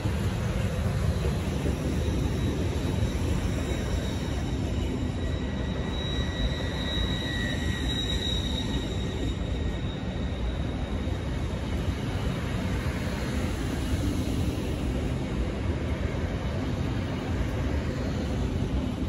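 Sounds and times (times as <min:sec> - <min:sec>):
train wheels rumbling: 0:00.0 - 0:19.0.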